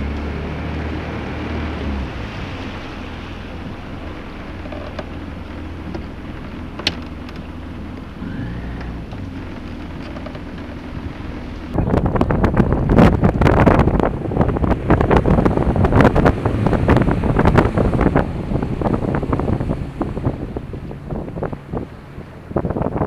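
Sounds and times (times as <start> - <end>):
jet ski engine running: 0.0 - 23.0
water splashing along hull: 0.0 - 23.0.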